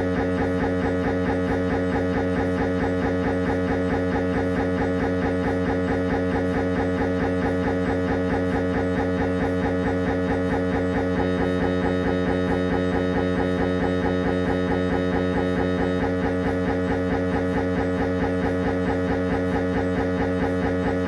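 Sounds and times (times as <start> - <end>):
mri scanner pulsing buzz: 0.0 - 21.0.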